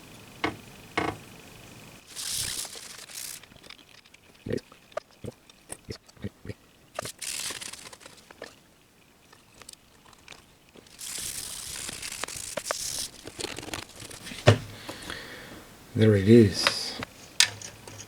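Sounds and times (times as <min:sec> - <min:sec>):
steady hiss: 0:00.0 - 0:18.0
small parts clicking and tapping: 0:02.0 - 0:15.2, 0:16.6 - 0:18.0.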